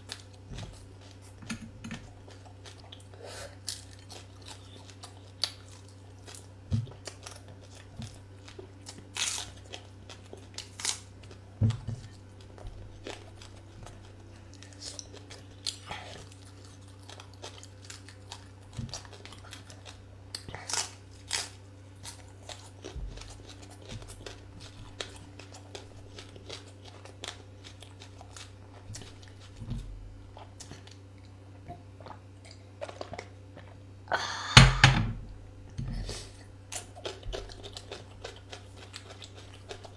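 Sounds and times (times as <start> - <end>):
person chewing food: 0.0 - 33.9, 36.1 - 39.9.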